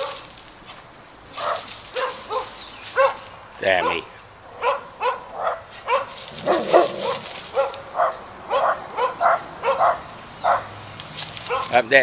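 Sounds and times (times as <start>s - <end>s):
dog barking: 0.0s - 0.2s, 1.4s - 10.7s, 11.5s - 11.8s.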